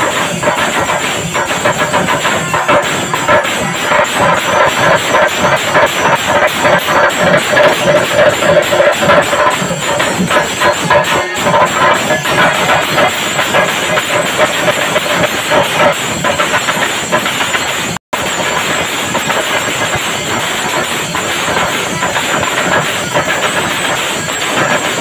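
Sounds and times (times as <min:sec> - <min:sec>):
cymbals clashing: 0:00.0 - 0:25.0
drums beaten with sticks: 0:00.0 - 0:25.0.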